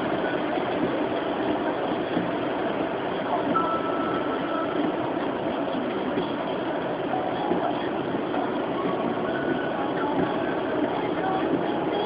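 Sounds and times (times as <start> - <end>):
heavy rain on car: 0.0 - 12.0
tyres on wet road: 0.0 - 12.0.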